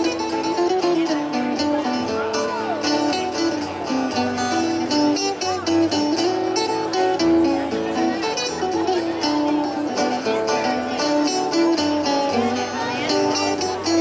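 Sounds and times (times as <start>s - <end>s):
string band playing: 0.0s - 14.0s.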